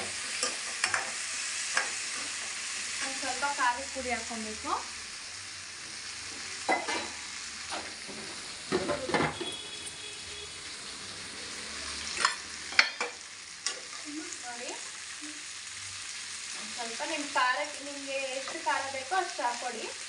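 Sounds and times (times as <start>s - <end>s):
meat sizzling in a pan: 0.0s - 20.0s.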